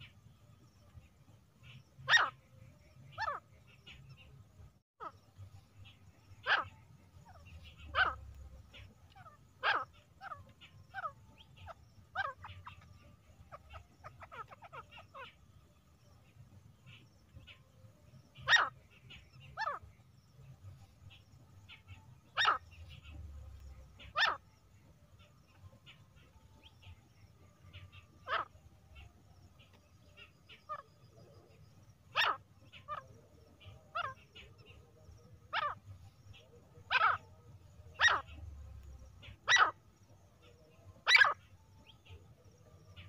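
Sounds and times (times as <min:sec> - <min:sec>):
francolin calling: 0:00.0 - 0:04.4, 0:05.0 - 0:43.0.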